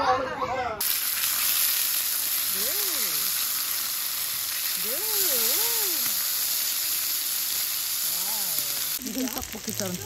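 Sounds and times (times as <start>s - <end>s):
meat sizzling on a griddle: 0.8s - 10.0s.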